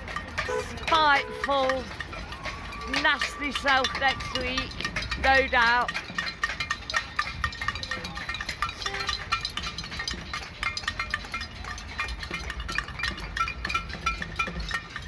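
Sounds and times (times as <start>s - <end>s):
rapid metallic clinking: 0.0s - 15.0s
traffic rumble: 0.0s - 15.0s.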